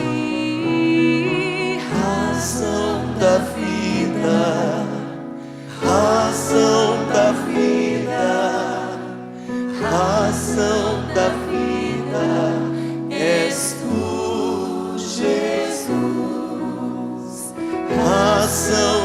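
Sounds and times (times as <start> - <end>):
person singing gospel song: 0.0 - 19.0.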